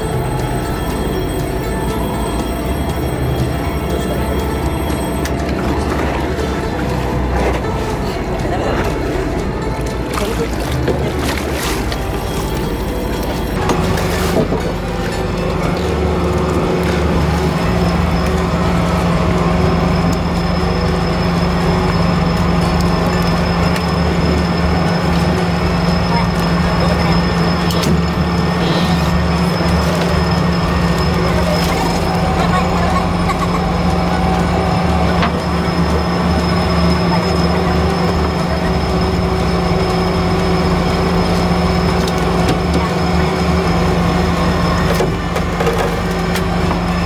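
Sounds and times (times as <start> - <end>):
boat engine droning: 0.0 - 47.0
high steady whine: 0.0 - 47.0.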